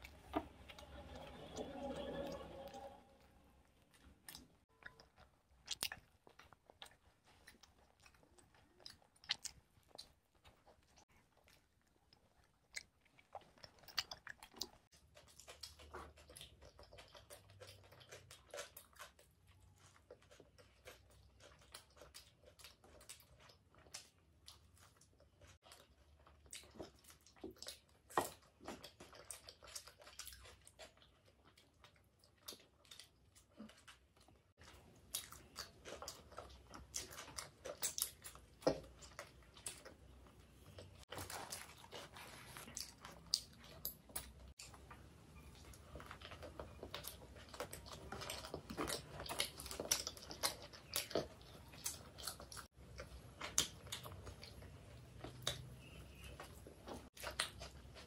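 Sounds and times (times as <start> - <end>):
chewing pizza: 0.0 - 58.0.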